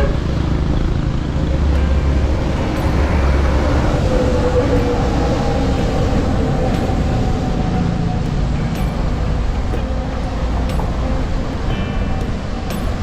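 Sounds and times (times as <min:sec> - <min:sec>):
passing motor vehicle tone: 0:00.0 - 0:13.0
wind and road noise rumble: 0:00.0 - 0:13.0.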